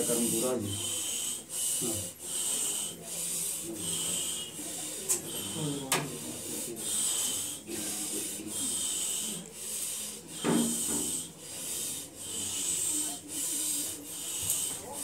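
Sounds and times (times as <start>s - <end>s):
loud rasping breaths: 0.0s - 15.0s.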